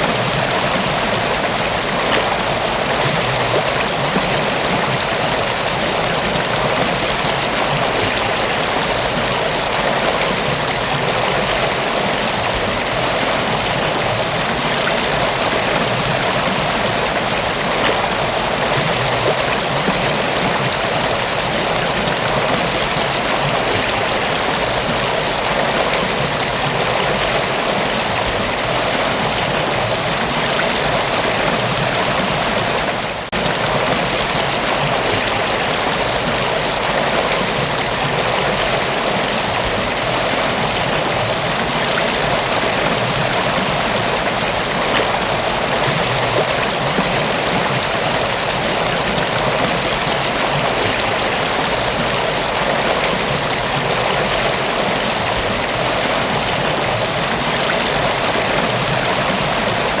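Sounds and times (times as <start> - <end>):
waterfall rushing and splashing: 0.0 - 60.0.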